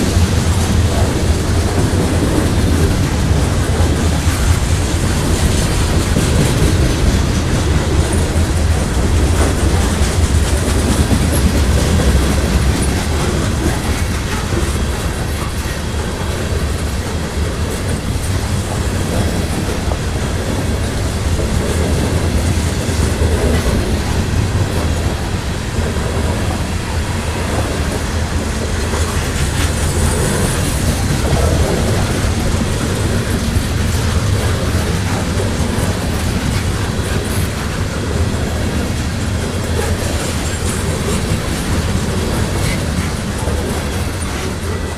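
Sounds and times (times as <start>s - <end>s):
train rumble: 0.0s - 44.9s
train wheels clickety-clack: 0.0s - 44.9s.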